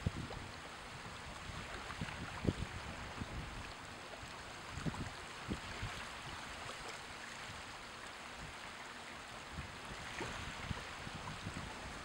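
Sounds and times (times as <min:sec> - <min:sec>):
small waves lapping at shore: 0:00.0 - 0:12.0.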